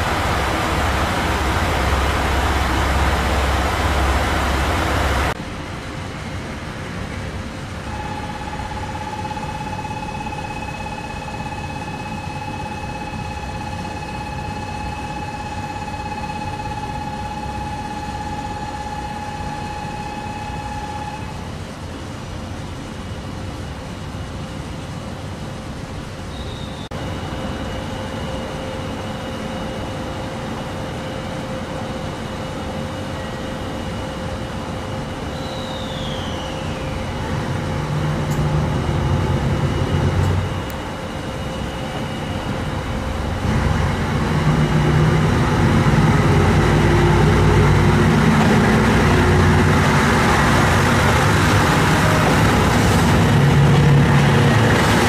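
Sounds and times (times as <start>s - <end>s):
diesel railcar engine rumble: 0.0s - 55.0s
long high whine: 0.0s - 55.0s
faint steady tones: 7.0s - 22.0s, 22.7s - 55.0s.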